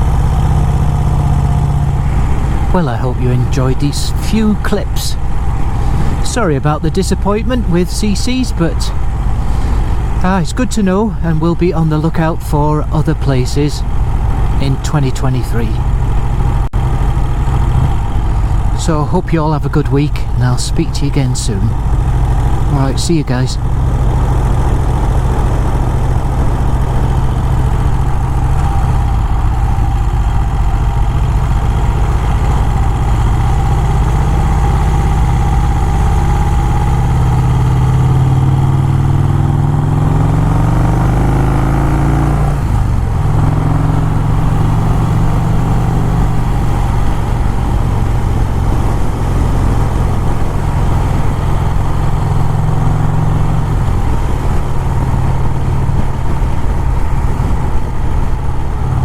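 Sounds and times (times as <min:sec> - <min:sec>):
low wind rumble: 0:00.0 - 0:59.0
motorcycle engine revving: 0:00.0 - 0:59.0.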